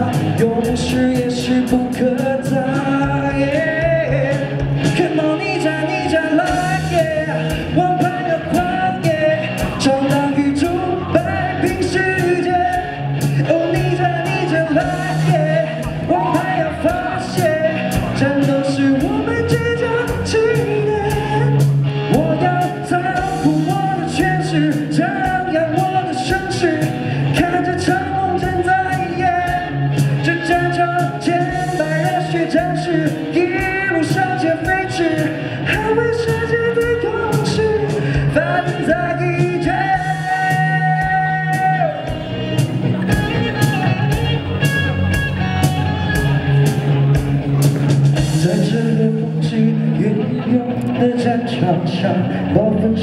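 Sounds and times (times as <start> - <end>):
man singing: 0.0 - 45.1, 48.2 - 53.0
bass guitar: 0.0 - 53.0
electric guitars: 0.0 - 53.0.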